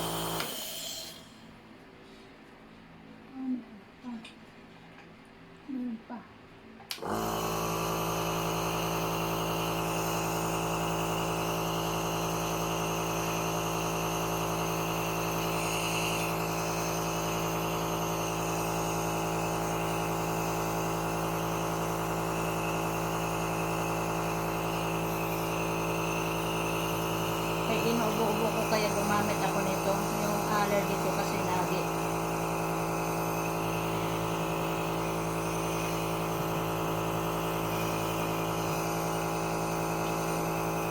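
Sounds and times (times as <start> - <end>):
nebulizer compressor humming: 0.0 - 1.6, 6.9 - 40.9.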